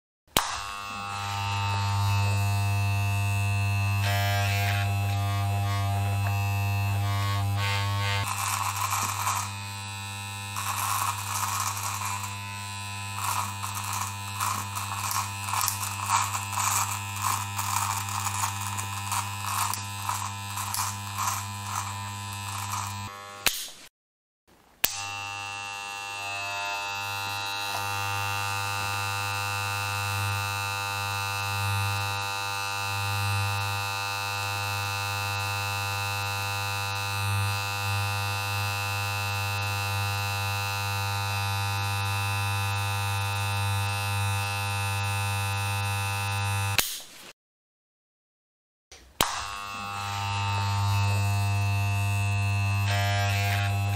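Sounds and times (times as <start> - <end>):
blades cutting hair: 0.3 - 23.9, 24.8 - 47.0, 48.9 - 53.9
electric hair clippers buzzing: 0.3 - 23.9, 24.8 - 47.0, 49.0 - 53.9.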